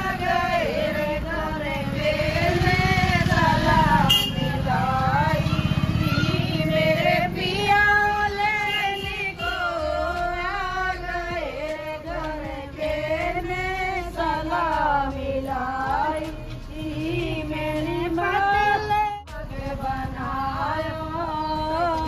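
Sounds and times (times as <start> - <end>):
woman singing: 0.0 - 22.0.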